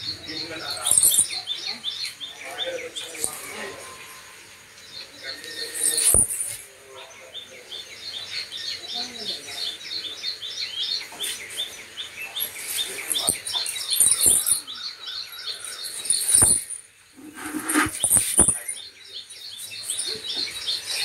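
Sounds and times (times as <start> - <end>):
small bird chirping: 0.0 - 21.0.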